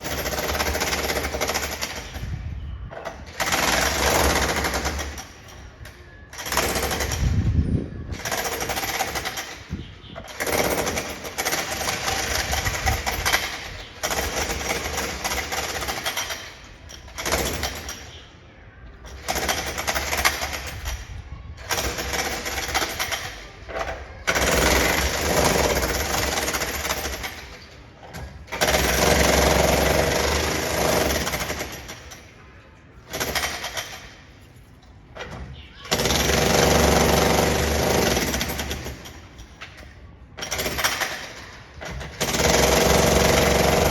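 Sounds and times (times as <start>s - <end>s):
demolition hammer chiselling concrete: 0.0s - 2.4s, 3.1s - 5.7s, 6.3s - 18.2s, 19.1s - 21.0s, 21.6s - 32.3s, 33.1s - 34.2s, 35.9s - 43.9s.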